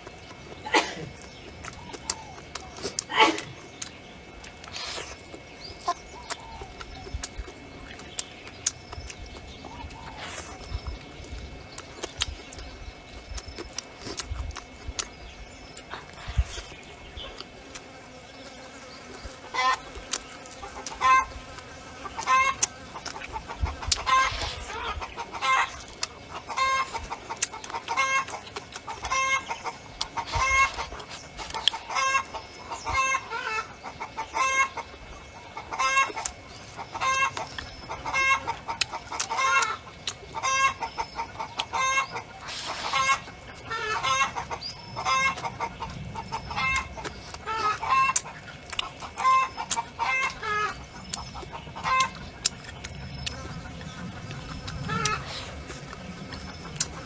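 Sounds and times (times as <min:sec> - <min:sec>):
chickens clucking: 0:00.0 - 0:18.2, 0:18.9 - 0:57.0.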